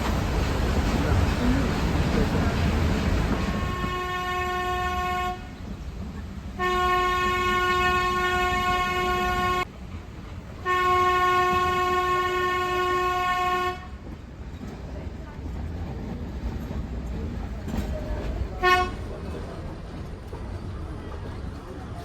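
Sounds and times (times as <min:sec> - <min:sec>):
low rumble of moving train: 0:00.0 - 0:22.0.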